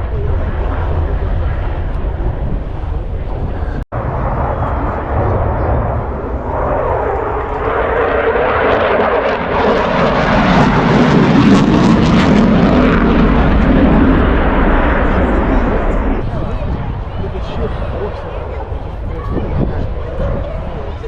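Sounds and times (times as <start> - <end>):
aircraft engine noise: 0.0 - 21.0.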